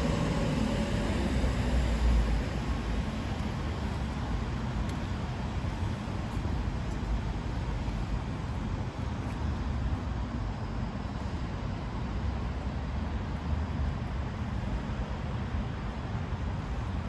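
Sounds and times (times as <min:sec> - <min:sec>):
distant traffic rumble and hiss: 0:00.0 - 0:17.0.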